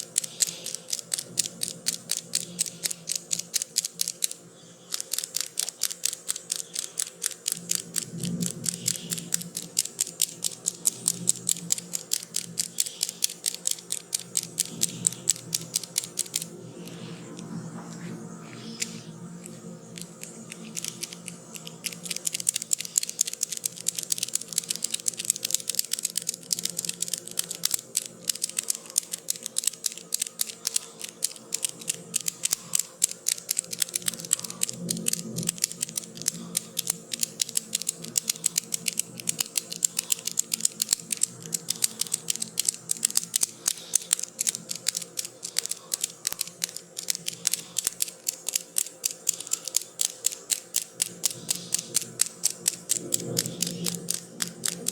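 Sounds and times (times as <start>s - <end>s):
rapid crisp clicks and taps: 0.0s - 17.5s, 18.6s - 54.9s.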